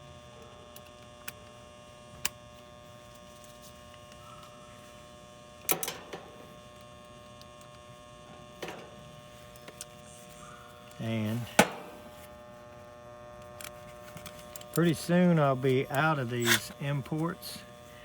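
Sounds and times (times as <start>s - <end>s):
steady electrical buzz: 0.0s - 18.0s.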